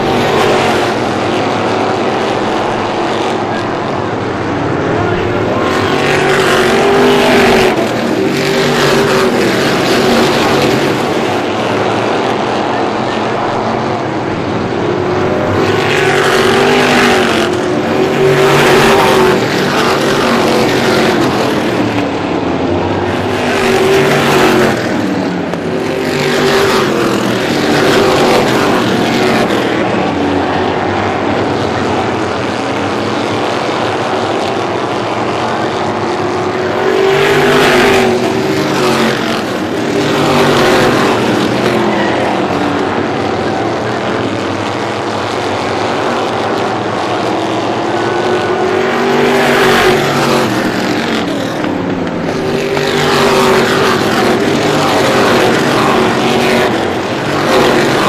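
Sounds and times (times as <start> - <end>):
race cars passing at speed: 0.0 - 58.0.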